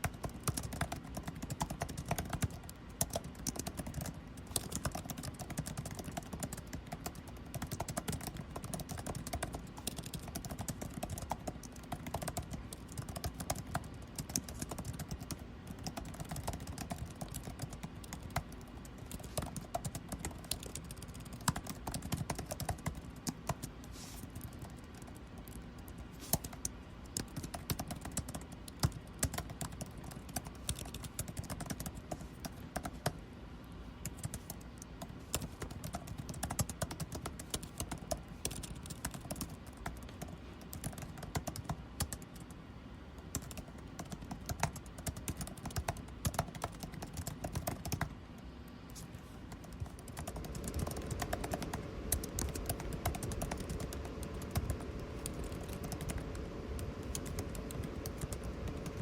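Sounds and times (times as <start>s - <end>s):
typing on a keyboard: 0.0s - 33.2s, 34.0s - 42.6s, 43.2s - 59.0s
air conditioning hum: 0.0s - 59.0s.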